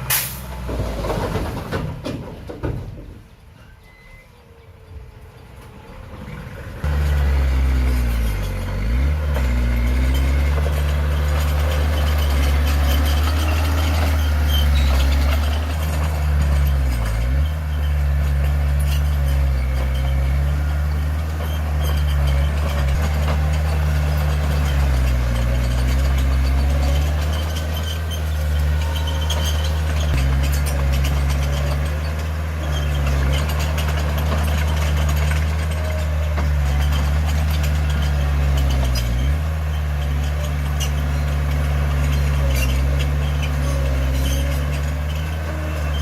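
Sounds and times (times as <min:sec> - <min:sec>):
heavy diesel engine running: 0:04.9 - 0:46.0.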